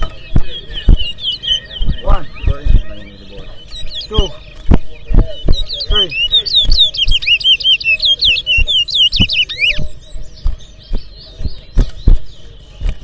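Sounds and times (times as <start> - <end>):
faint bird twittering: 0.0 - 13.0
finch singing whistled notes: 0.0 - 13.0.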